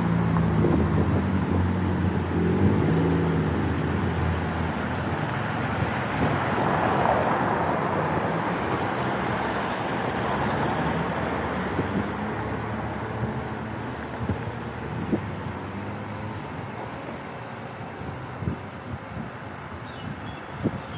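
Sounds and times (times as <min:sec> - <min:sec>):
vehicles passing on road: 0:00.0 - 0:20.9.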